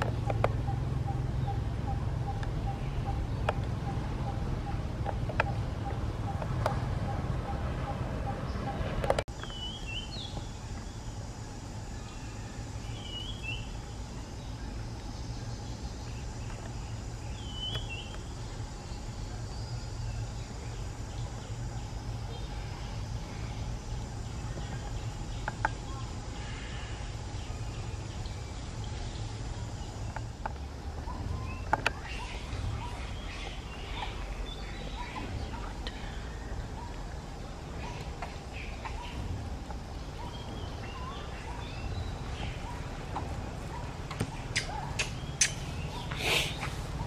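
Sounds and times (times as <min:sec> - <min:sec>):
steady low rumble: 0:00.0 - 0:47.0
bird gliding chirps: 0:00.4 - 0:47.0.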